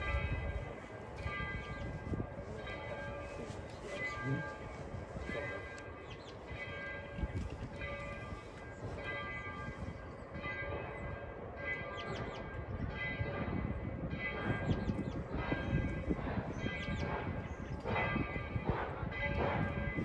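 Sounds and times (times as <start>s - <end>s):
locomotive bell ringing: 0.0s - 20.0s.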